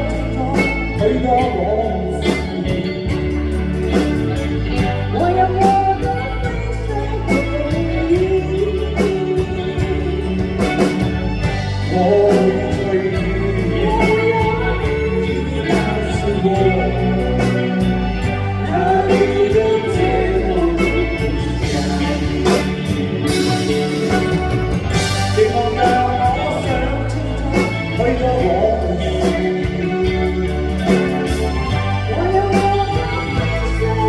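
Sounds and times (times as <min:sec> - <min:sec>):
pop ballad sung live: 0:00.0 - 0:34.0.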